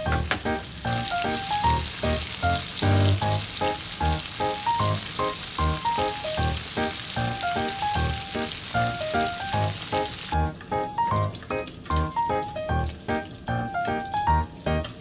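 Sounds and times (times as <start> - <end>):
light melodic background music: 0.0 - 15.0
meatballs sizzling in oil: 0.0 - 15.0.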